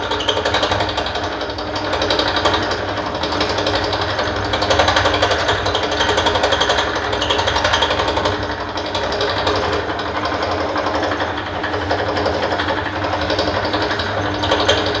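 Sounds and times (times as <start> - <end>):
fast mechanical clatter: 0.0 - 15.0
motor hum: 0.0 - 15.0.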